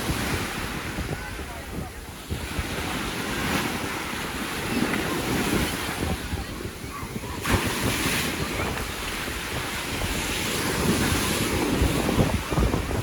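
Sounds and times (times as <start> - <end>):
sea waves breaking on shore: 0.0 - 13.0
wind buffeting microphone: 0.0 - 13.0.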